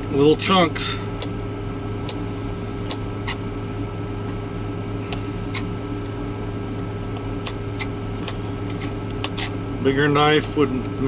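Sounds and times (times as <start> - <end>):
truck cab low hum: 0.0 - 11.0.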